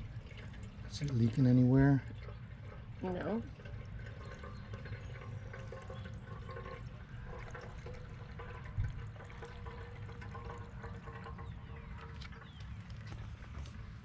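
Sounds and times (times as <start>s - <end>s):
gasoline pouring into fuel tank: 0.0s - 14.0s.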